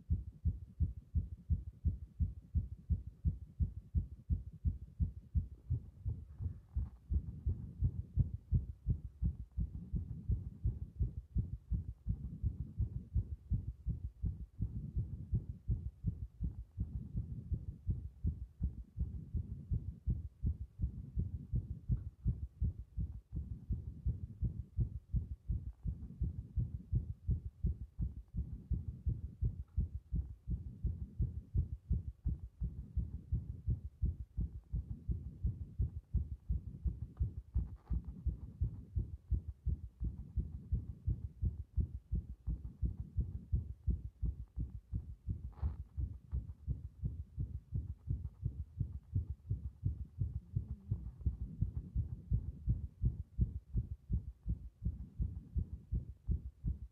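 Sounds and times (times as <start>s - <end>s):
heartbeat through stethoscope: 0.0s - 56.9s.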